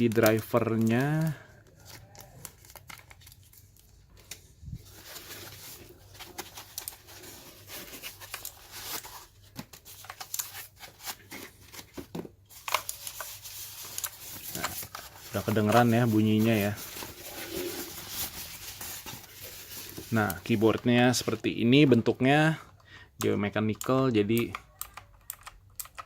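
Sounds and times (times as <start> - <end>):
plastic packaging crinkling: 0.0 - 21.4.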